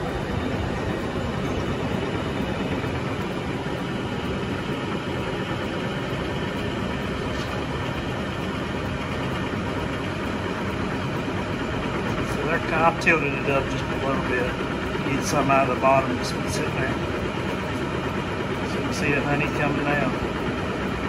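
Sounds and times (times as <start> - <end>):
honey extractor whirring: 0.0 - 21.0.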